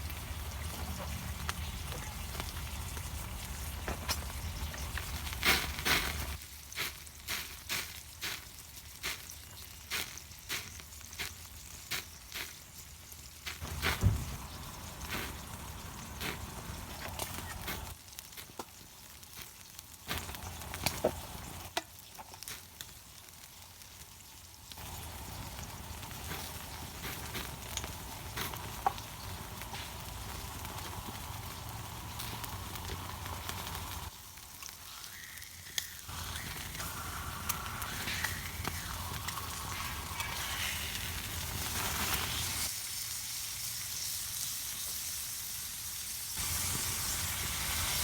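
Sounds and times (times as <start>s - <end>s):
steak sizzling on a griddle: 0.0s - 48.0s.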